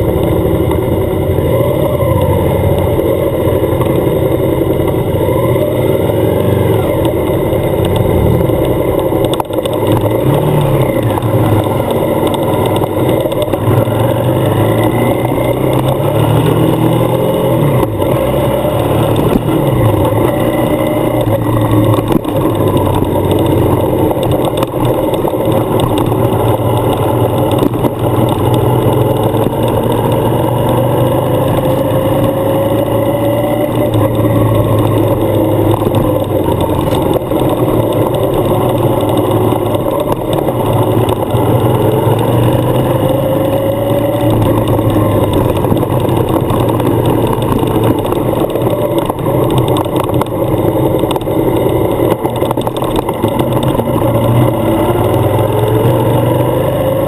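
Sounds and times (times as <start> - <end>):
motorcycle engine running: 0.0 - 57.0
road noise on gravel: 0.0 - 57.0.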